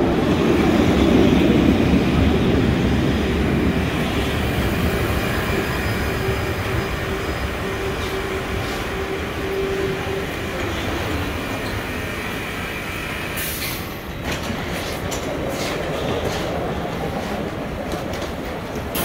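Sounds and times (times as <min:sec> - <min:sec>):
tram rumbling on track: 0:00.0 - 0:19.0.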